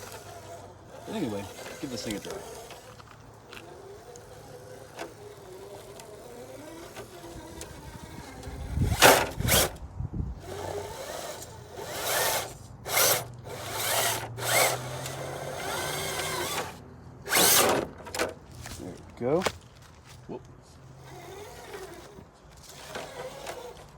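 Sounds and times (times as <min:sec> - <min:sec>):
electric motor whining: 0:00.0 - 0:18.9, 0:20.9 - 0:23.9.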